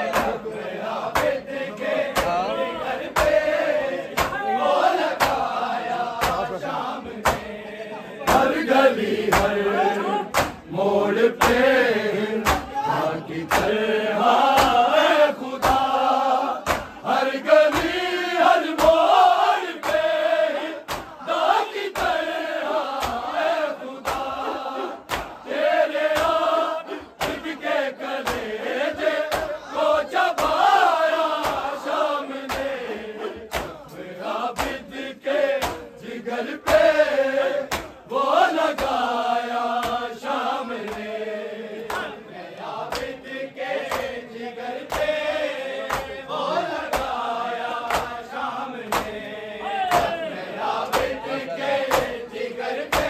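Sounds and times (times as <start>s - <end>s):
men chanting in unison: 0.0s - 53.0s
rhythmic chest-beating slaps: 0.0s - 53.0s.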